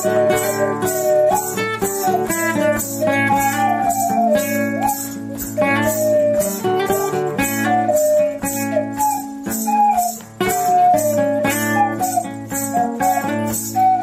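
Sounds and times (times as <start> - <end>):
light percussion beat: 0.0 - 14.0
plucked string melody: 0.0 - 14.0.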